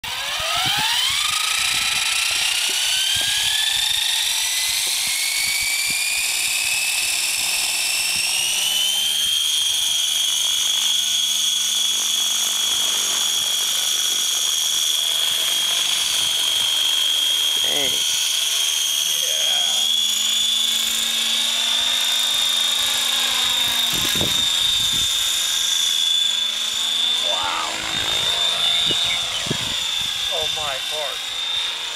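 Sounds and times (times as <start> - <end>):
model helicopter motor whine rising: 0.0 - 31.9.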